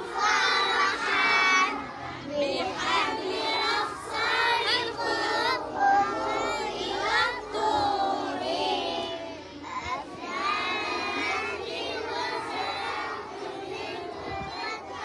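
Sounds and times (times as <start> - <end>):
children singing and shouting: 0.0 - 15.0.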